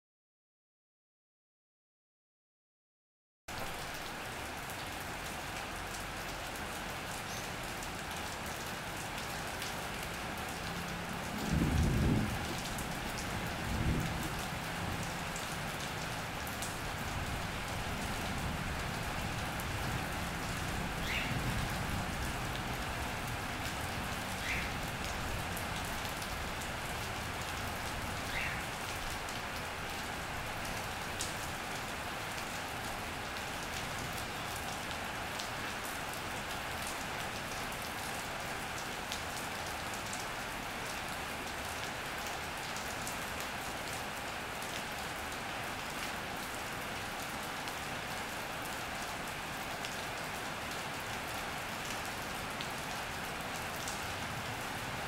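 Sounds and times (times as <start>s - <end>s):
rain on an iron roof: 3.5s - 55.0s.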